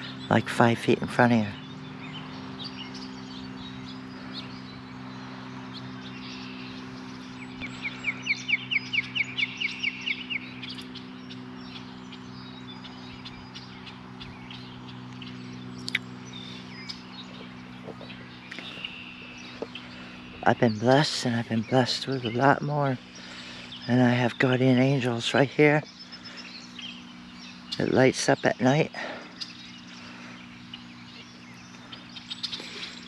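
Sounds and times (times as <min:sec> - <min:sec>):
bird fast run of sharp notes: 0:00.0 - 0:33.0
birds chirping: 0:00.0 - 0:33.0
steady low hum: 0:00.0 - 0:33.0.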